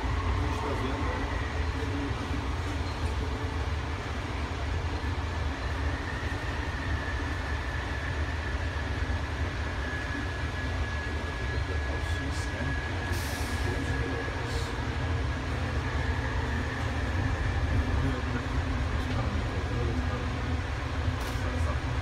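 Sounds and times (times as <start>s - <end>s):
steel wheels rumbling on rail: 0.0s - 22.0s.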